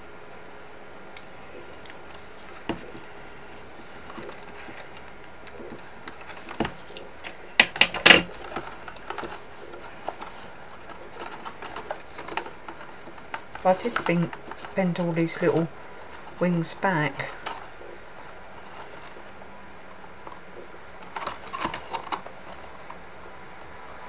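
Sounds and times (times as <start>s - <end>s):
card pieces tapping and crinkling: 1.7s - 3.2s, 3.8s - 23.0s.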